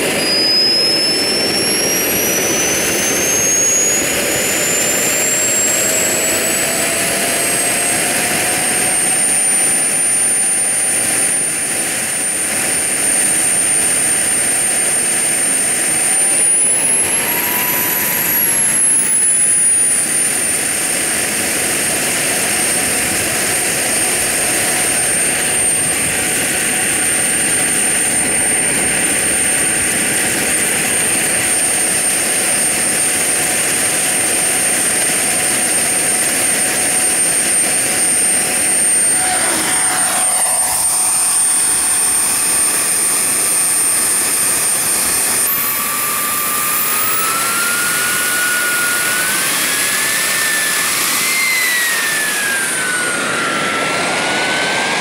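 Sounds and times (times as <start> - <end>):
jet turbine whine: 0.0 - 55.0
rushing exhaust: 0.0 - 55.0.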